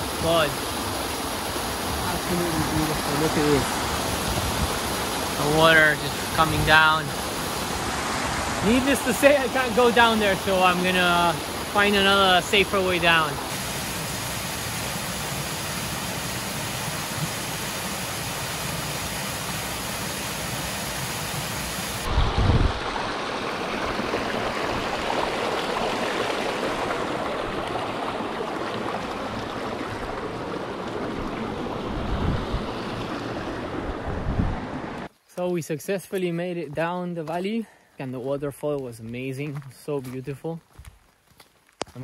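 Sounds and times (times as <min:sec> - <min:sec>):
waterfall roaring: 0:00.0 - 0:35.1
stream running over rocks: 0:00.0 - 0:37.5.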